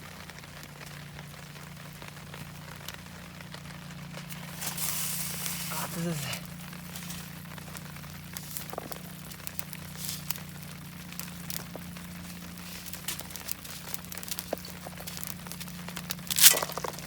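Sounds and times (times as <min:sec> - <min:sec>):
steady low hum: 0:00.0 - 0:17.0
wrapping crinkling: 0:00.0 - 0:17.0.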